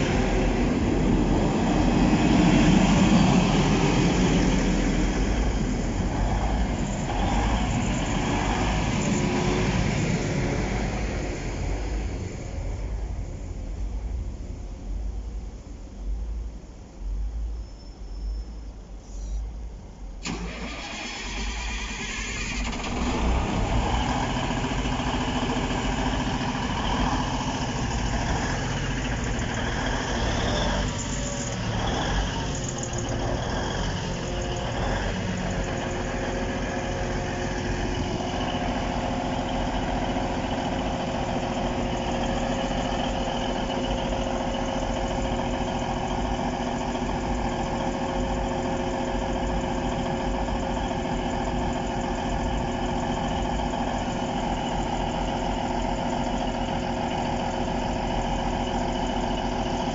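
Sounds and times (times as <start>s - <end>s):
diesel engine idling: 0.0s - 15.7s, 20.1s - 59.9s.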